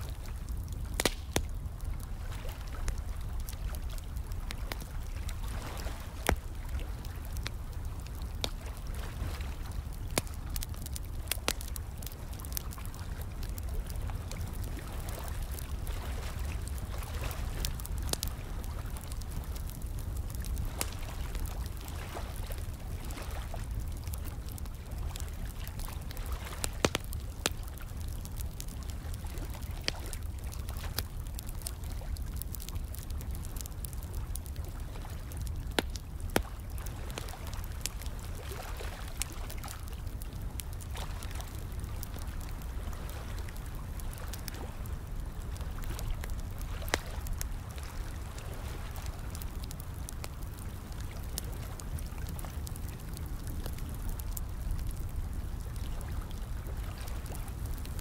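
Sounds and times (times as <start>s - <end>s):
fire crackling and popping: 0.0s - 58.0s
running and trickling water: 1.6s - 54.0s.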